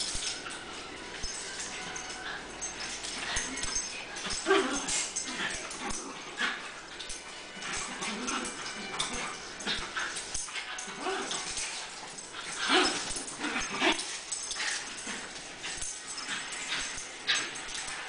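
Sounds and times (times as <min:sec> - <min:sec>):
claws clicking on tile floor: 0:00.0 - 0:18.0
dogs playing: 0:00.0 - 0:18.0.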